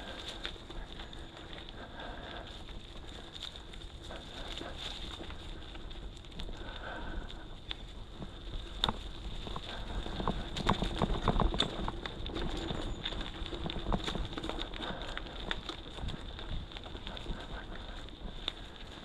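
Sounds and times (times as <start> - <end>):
bike rattling over rocks: 0.0 - 19.0.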